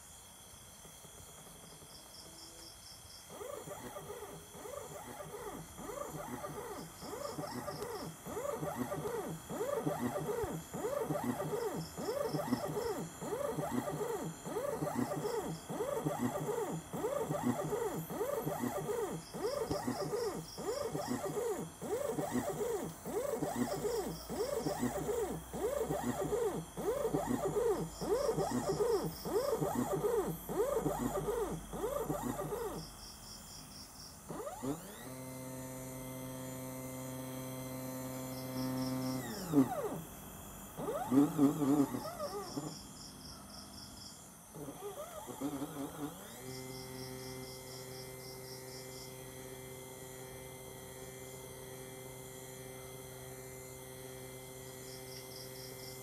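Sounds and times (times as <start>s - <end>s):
stepper motor whine: 0.0s - 56.0s.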